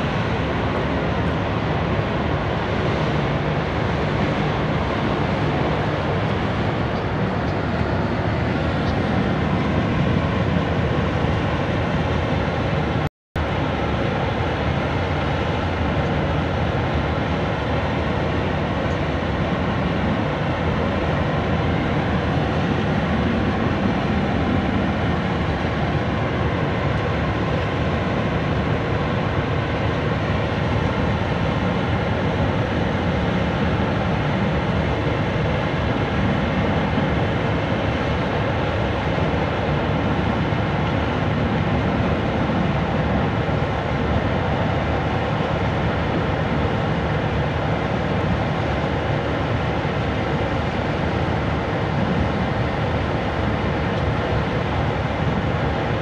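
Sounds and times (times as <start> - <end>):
engines and machinery rumbling: 0.0 - 56.0.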